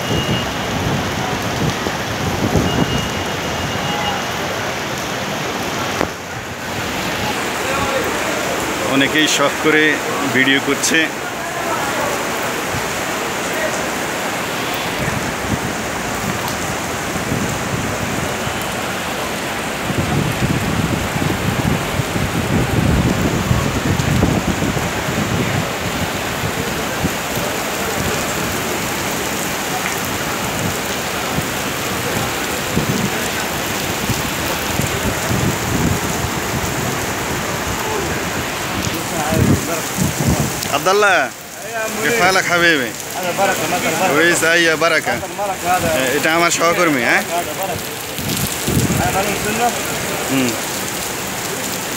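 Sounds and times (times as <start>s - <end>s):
rain falling and splashing: 0.0s - 51.9s.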